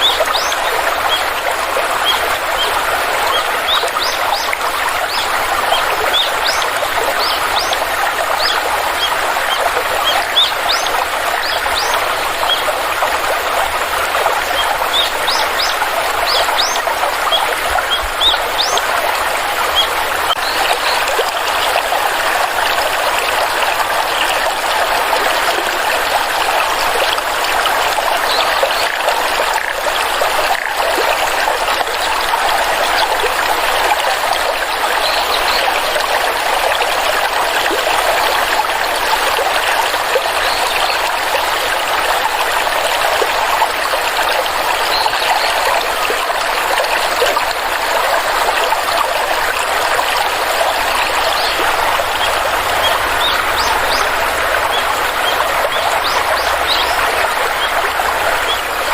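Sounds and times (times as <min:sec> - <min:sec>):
stream flowing and trickling: 0:00.0 - 0:58.9.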